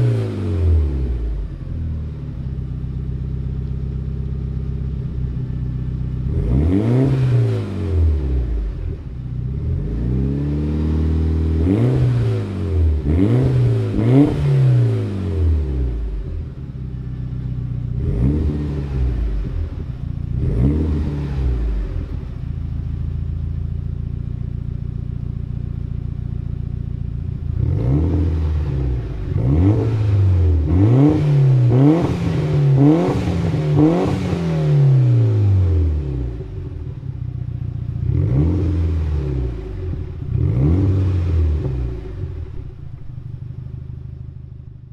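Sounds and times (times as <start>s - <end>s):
car engine idling: 0.0s - 44.9s
car engine revving: 0.0s - 44.9s.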